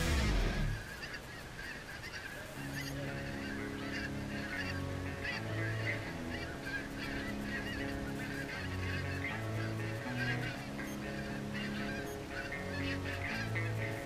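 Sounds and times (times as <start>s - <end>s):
flock of geese calling: 0.0s - 14.0s.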